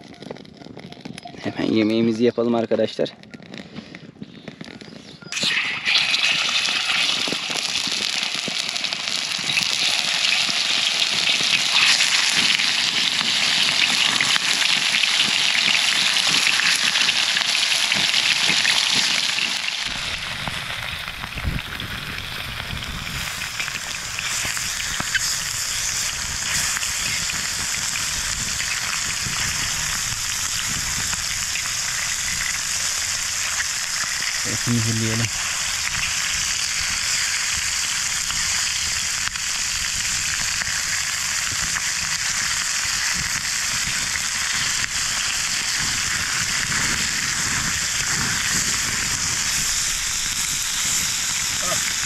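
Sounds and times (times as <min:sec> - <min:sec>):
meat sizzling over a fire: 0:00.0 - 0:52.0.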